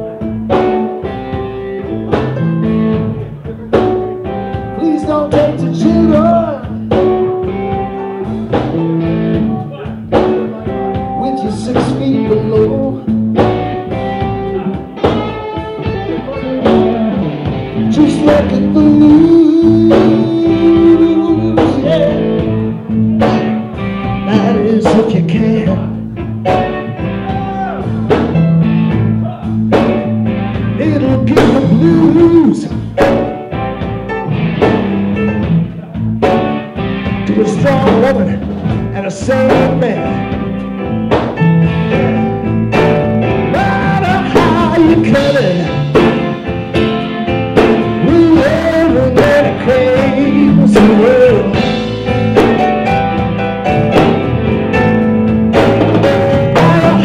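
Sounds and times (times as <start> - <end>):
drum kit beat: 0.0 - 57.0
electric bass: 0.0 - 57.0
electric guitar: 0.0 - 57.0.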